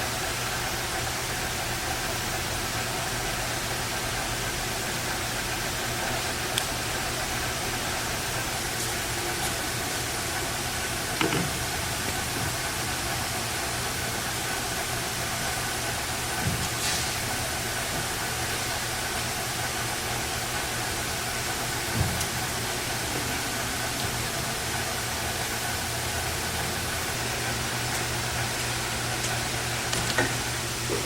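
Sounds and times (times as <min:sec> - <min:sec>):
lathe humming and hissing: 0:00.0 - 0:31.0.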